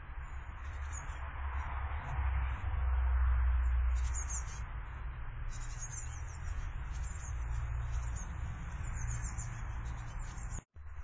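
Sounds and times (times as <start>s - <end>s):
birds chirping: 0.1s - 2.6s, 3.5s - 10.7s.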